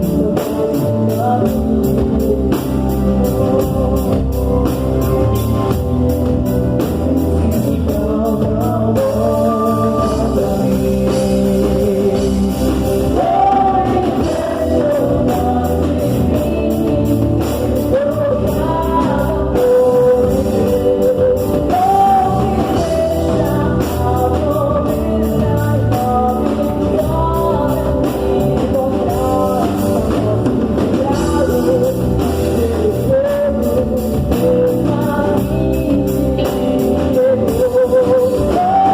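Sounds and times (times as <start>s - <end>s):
band playing gospel music: 0.0s - 38.9s
person singing: 0.0s - 38.9s.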